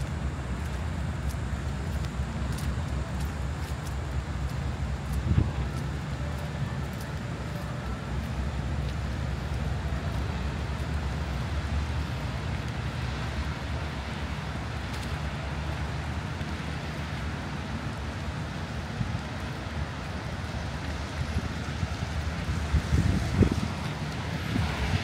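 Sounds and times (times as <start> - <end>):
wind buffeting microphone: 0.0 - 6.4, 7.1 - 25.0.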